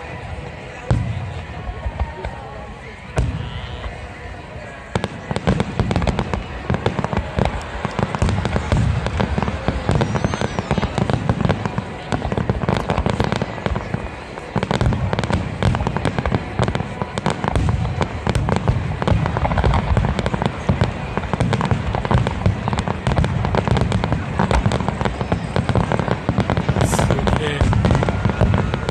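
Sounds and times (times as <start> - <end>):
fireworks booming and crackling: 0.0 - 28.9.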